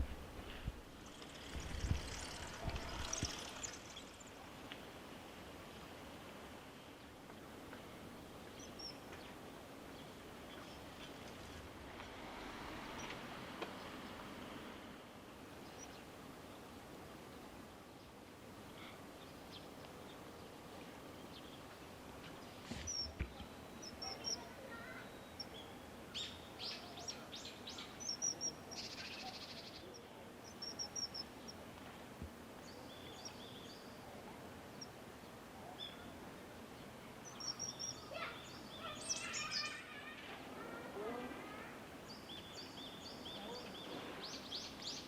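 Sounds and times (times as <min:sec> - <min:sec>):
small birds chirping: 0:00.0 - 0:04.8, 0:07.7 - 0:11.6, 0:15.5 - 0:45.0
steady background hiss: 0:00.0 - 0:45.0.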